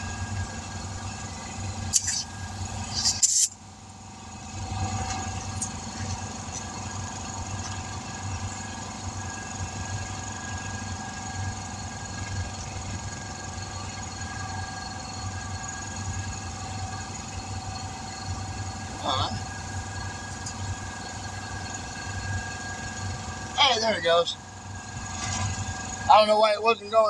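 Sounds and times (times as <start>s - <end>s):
engine running with pulsing hum: 0.0s - 27.0s.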